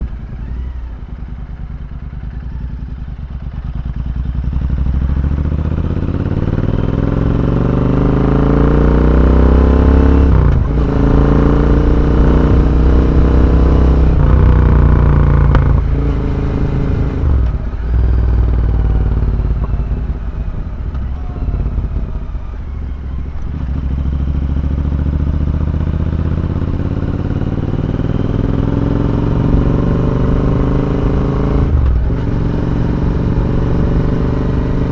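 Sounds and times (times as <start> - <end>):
motorcycle engine revving through gears: 0.0 - 34.9.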